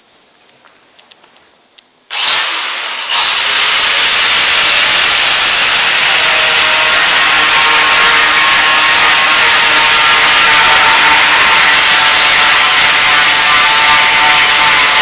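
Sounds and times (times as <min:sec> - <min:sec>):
angle grinder motor whine: 0:02.1 - 0:15.0.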